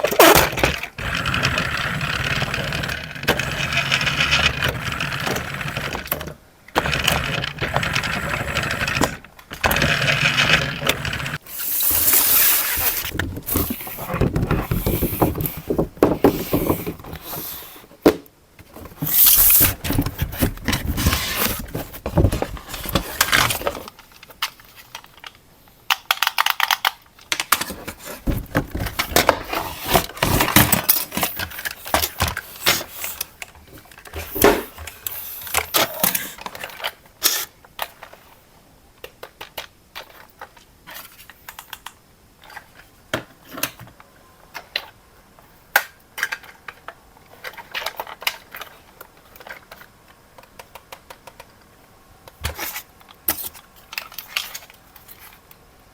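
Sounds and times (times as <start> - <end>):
plastic toys clicking and clattering: 0.0 - 17.6, 18.6 - 38.4, 39.0 - 45.0, 45.7 - 51.7, 52.3 - 55.6.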